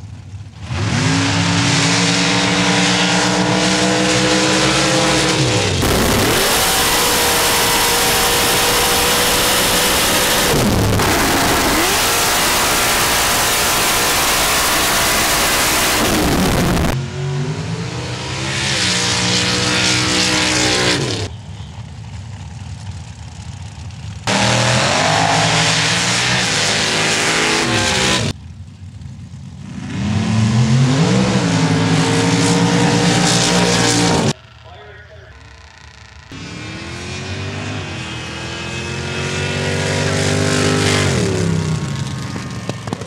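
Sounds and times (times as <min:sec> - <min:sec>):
racing engines revving: 0:00.6 - 0:43.0.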